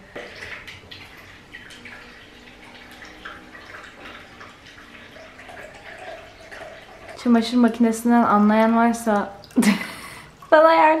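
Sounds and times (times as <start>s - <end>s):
water splashing into plastic bowl: 0.0s - 10.6s.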